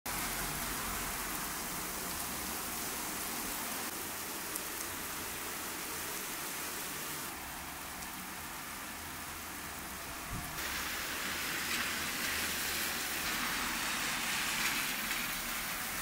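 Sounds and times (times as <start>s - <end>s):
rain on wet paving: 0.1s - 16.0s.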